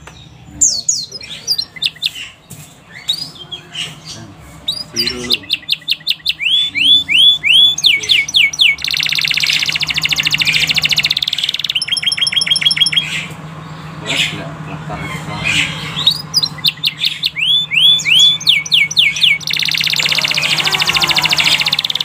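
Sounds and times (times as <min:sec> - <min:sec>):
canary singing: 0:00.0 - 0:22.0.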